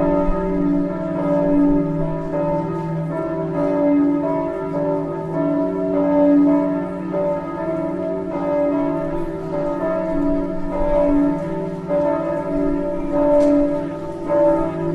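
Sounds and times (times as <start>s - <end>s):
church bell ringing: 0.0s - 14.9s.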